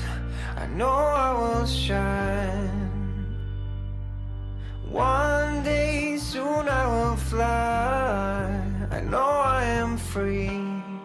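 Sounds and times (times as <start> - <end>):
person singing: 0.0 - 3.5, 4.8 - 11.0
background song: 0.0 - 11.0
sustained chord over bass: 0.0 - 11.0.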